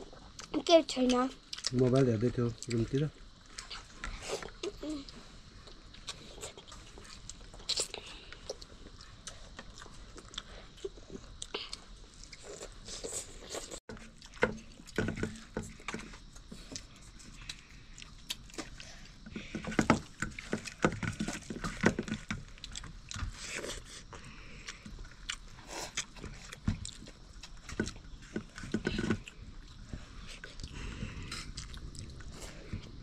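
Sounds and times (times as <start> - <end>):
people chewing and biting: 1.4 - 1.8, 2.6 - 33.0.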